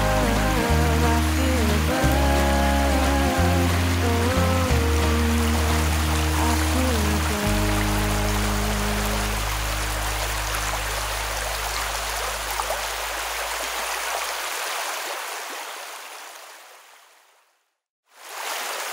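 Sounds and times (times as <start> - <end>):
stream splashing over rocks: 0.0 - 17.3, 18.1 - 18.9.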